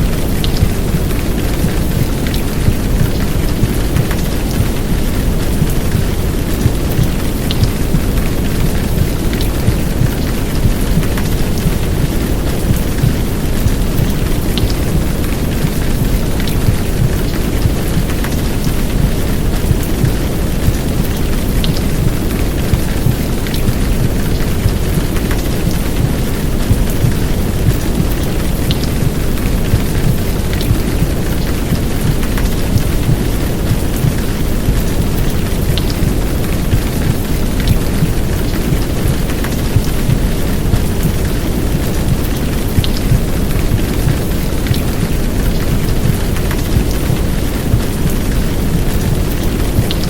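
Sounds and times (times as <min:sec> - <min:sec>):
deep muffled womb noise: 0:00.0 - 0:50.0
steady downpour of rain: 0:00.0 - 0:50.0.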